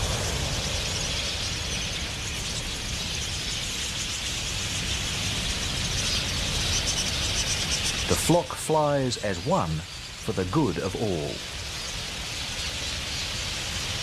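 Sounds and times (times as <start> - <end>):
birds chirping: 0.0 - 14.0
flock of birds wingbeats: 0.0 - 14.0.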